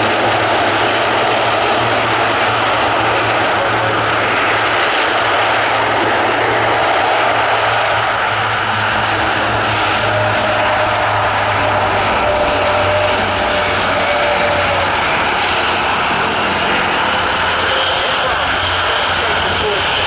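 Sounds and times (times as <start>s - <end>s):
turboprop engines droning: 0.0s - 20.0s.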